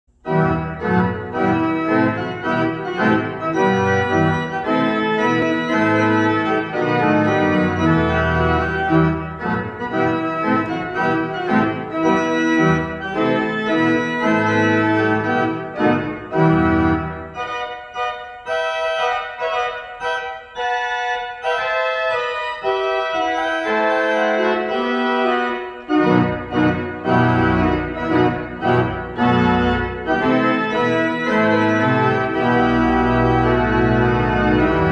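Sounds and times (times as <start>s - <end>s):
organ playing chords: 0.1s - 34.9s
deep organ pedal bass: 0.2s - 34.9s.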